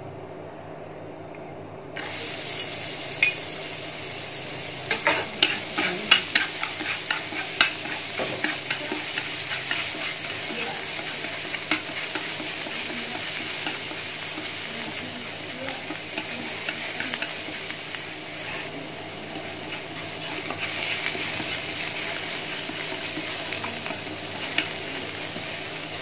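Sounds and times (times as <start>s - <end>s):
garlic sizzling in oil: 2.0s - 26.0s.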